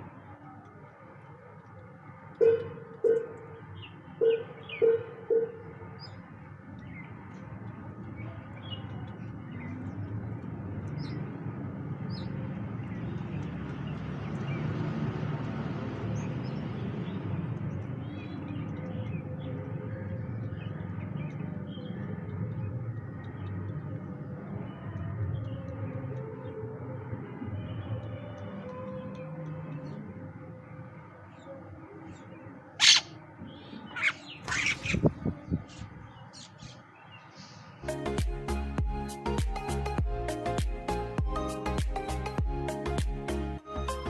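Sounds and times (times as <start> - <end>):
birds chirping: 0.0 - 15.4, 16.0 - 44.0
low traffic-like rumble: 0.0 - 44.0.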